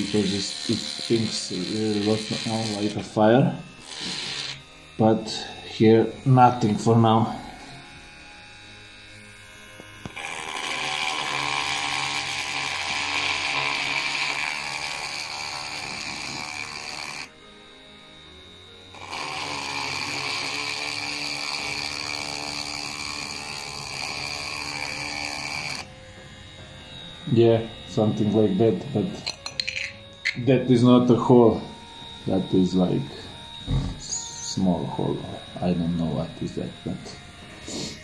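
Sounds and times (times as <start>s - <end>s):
rotary tool drilling: 0.0s - 38.0s.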